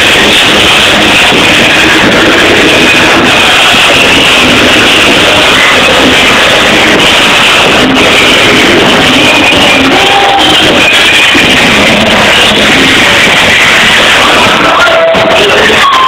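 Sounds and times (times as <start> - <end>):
loud distorted music: 0.0 - 16.0.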